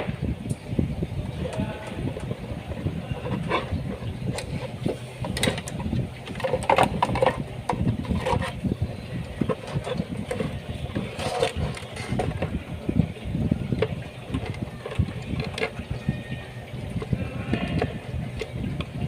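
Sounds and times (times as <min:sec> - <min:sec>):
steady low rumble: 0:00.0 - 0:19.0
parts clicking and knocking: 0:01.4 - 0:19.0.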